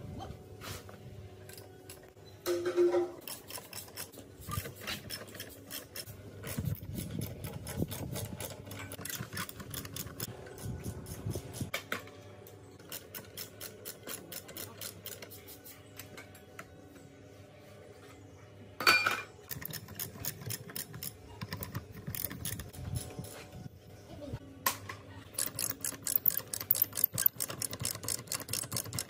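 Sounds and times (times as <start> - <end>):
hand tools clicking and scraping metal: 1.4 - 16.7, 18.8 - 23.6, 25.2 - 29.0.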